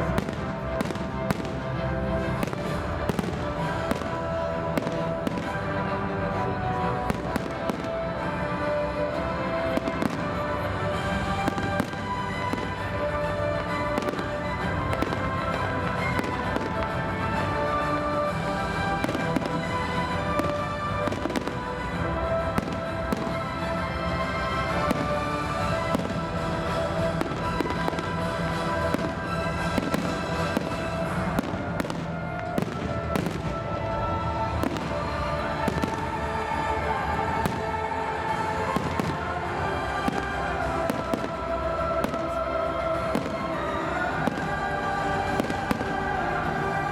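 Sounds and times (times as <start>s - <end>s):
fireworks bangs and crackles: 0.0s - 46.9s
music playing: 0.0s - 46.9s.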